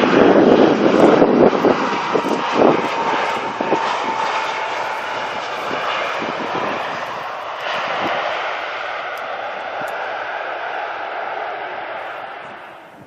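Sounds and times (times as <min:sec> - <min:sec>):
airliner engines roaring: 0:00.0 - 0:13.0
wind buffeting microphone: 0:00.0 - 0:13.0.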